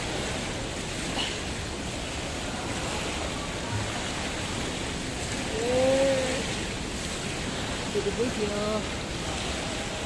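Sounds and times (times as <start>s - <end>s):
jacuzzi water churning and bubbling: 0.0s - 10.0s.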